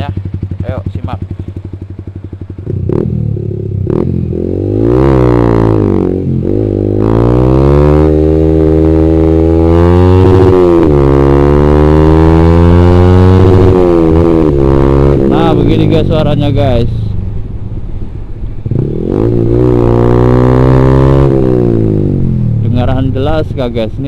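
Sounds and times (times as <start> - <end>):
motorcycle engine accelerating: 0.0 - 17.1, 18.5 - 24.0.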